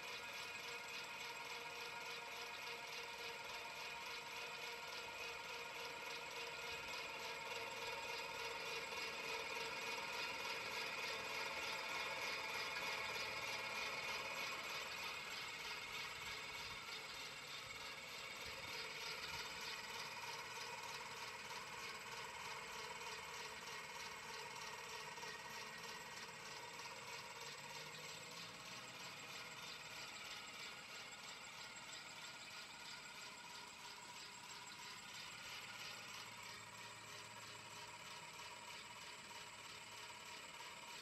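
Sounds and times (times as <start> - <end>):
clockwork fan whirring and ticking: 0.0 - 41.0.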